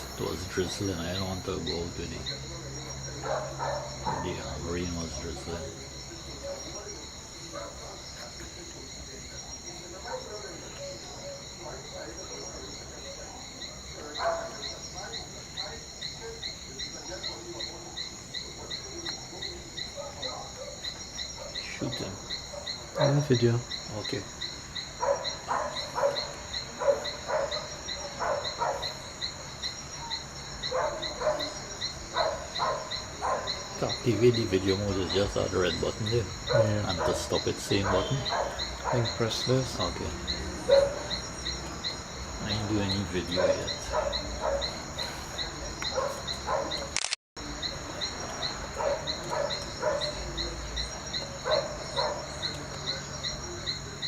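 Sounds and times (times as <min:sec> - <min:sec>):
crickets chirping: 0:00.0 - 0:54.0
high insect drone: 0:00.0 - 0:54.0
loud short insect calls: 0:00.0 - 0:54.0.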